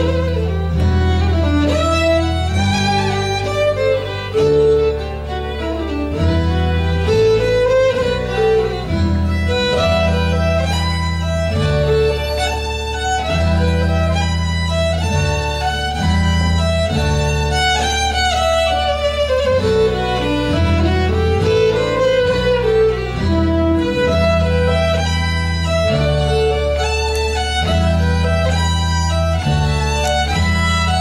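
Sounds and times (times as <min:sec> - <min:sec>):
fiddle playing dance tune: 0:00.0 - 0:31.0
low bass notes: 0:00.0 - 0:31.0.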